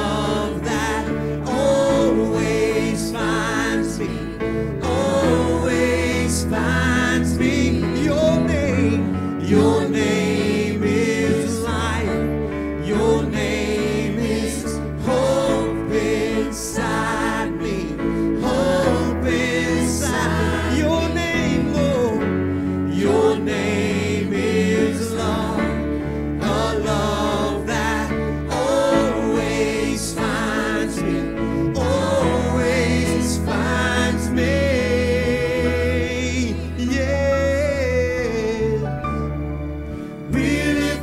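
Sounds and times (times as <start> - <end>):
voices singing along: 0.0 - 37.2, 40.2 - 41.0
band backing with bass line: 0.0 - 41.0.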